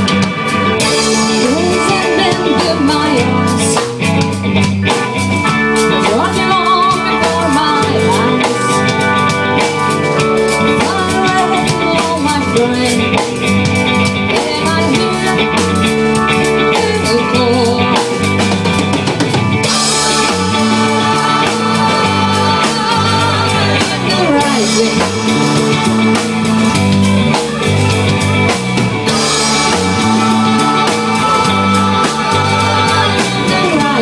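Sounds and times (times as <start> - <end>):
drums keeping a steady beat: 0.0 - 34.0
live rock band playing: 0.0 - 34.0.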